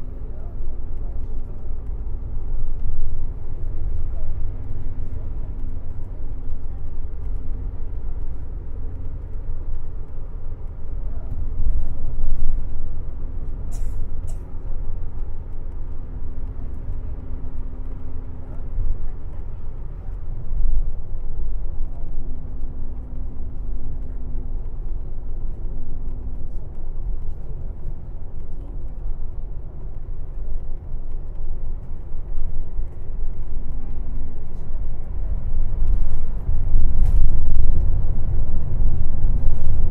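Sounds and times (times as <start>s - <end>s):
coach engine and road rumble: 0.0s - 39.9s.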